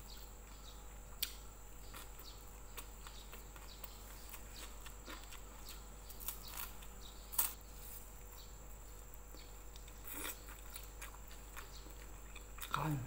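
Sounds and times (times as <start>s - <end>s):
quiet chewing with crunches: 0.0s - 13.0s.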